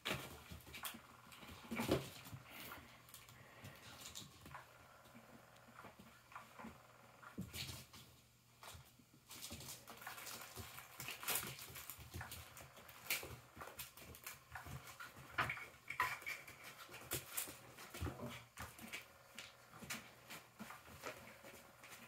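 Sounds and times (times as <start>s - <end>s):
kittens scratching fabric: 0.0s - 22.0s.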